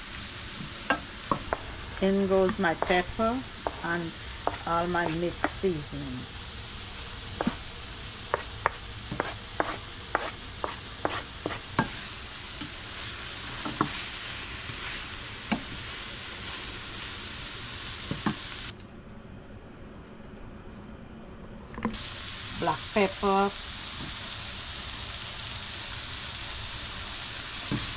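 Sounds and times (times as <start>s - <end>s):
vegetables sizzling in a pan: 0.0s - 18.7s, 21.9s - 27.9s.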